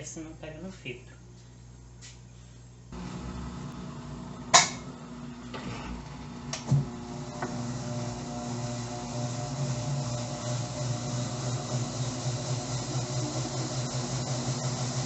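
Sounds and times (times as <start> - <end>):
washing machine motor hum: 2.9 - 15.0.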